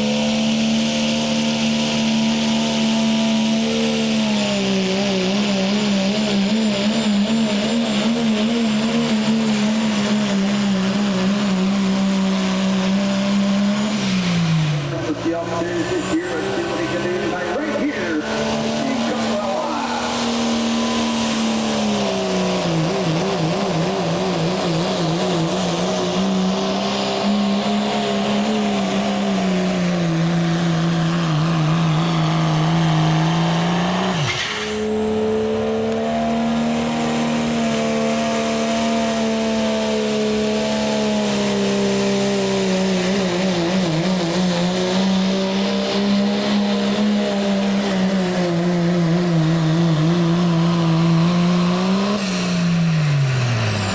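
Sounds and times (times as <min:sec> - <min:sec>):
diesel engines at full throttle: 0:00.0 - 0:53.9.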